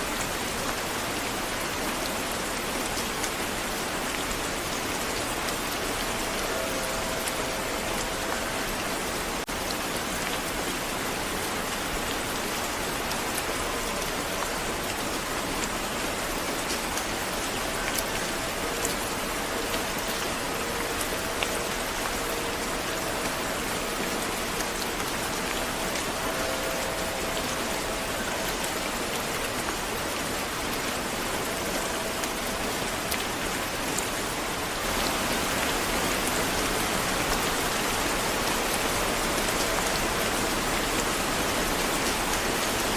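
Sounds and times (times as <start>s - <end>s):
rain on hard surfaces: 0.0s - 42.9s.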